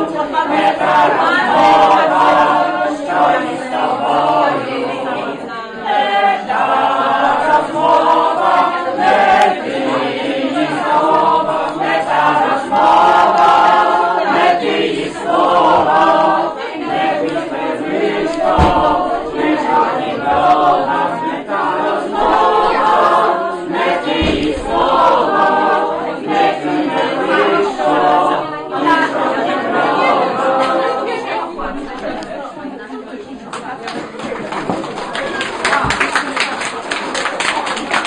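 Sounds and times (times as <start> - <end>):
choir singing unaccompanied: 0.0 - 33.2.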